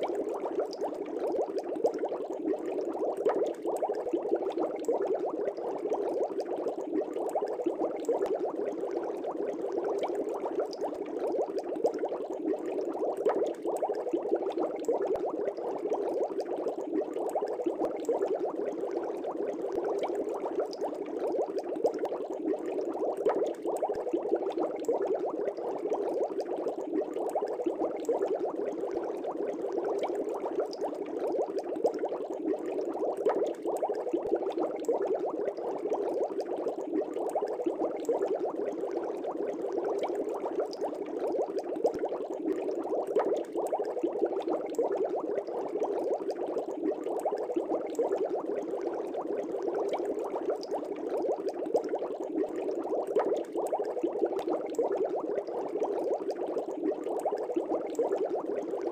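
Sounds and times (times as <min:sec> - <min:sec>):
aquarium air bubbles gurgling: 0:00.0 - 0:58.9.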